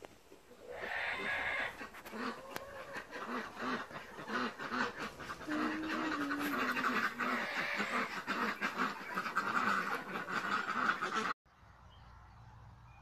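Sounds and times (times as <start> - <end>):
hens clucking: 0.3 - 11.4.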